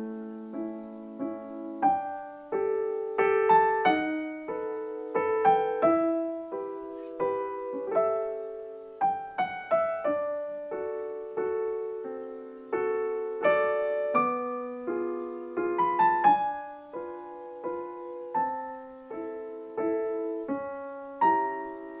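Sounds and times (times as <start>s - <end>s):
gentle piano piece: 0.0s - 22.0s.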